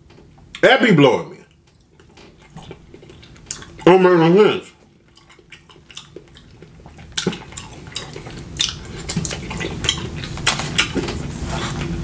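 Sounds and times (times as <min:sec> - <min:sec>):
wet chewing and lip smacking: 0:01.5 - 0:04.0, 0:04.8 - 0:12.0.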